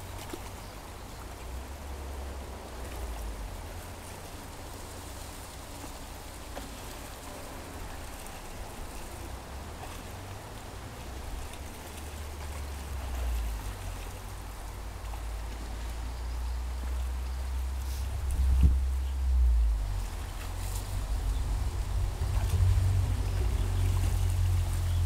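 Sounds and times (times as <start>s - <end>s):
creek water rippling over gravel: 0.0s - 25.0s
faint small splashes: 0.0s - 25.0s
low rumble on microphone: 0.0s - 25.0s.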